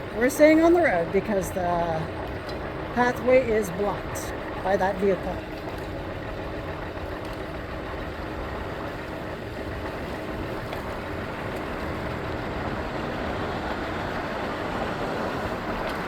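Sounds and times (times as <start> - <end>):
electric scooter rumbling: 0.0 - 16.0
road noise: 0.0 - 16.0.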